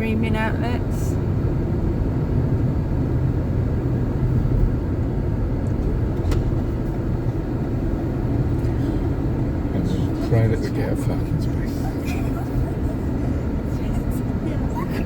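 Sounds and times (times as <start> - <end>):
car engine and tyres rumble: 0.0 - 15.0.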